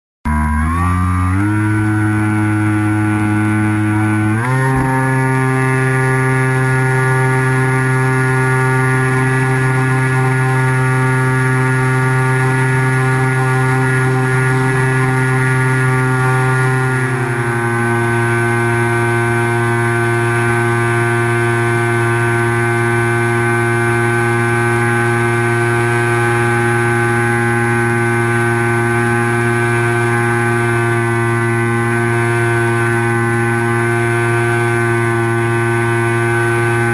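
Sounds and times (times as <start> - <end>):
electric motor propeller whine: 0.3 - 36.9.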